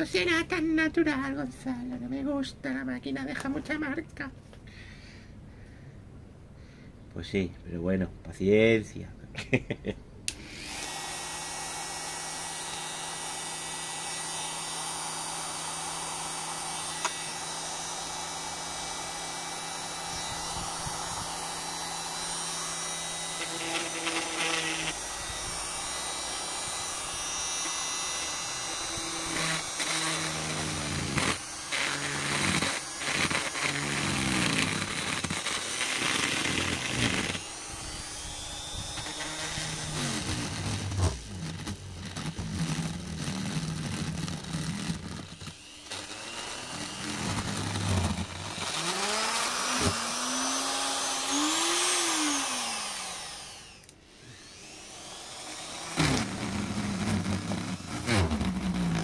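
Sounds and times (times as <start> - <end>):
grinder motor whine: 10.3 - 59.0.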